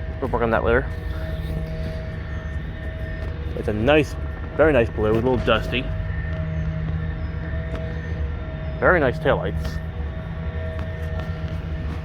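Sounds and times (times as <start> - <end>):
low mechanical drone: 0.0 - 12.0
steady hum tones: 0.0 - 12.0.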